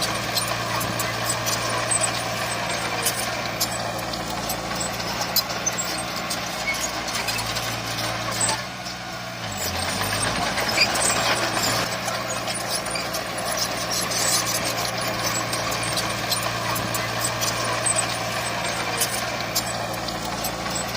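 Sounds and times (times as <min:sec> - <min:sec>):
heavy diesel machinery running: 0:00.0 - 0:20.9.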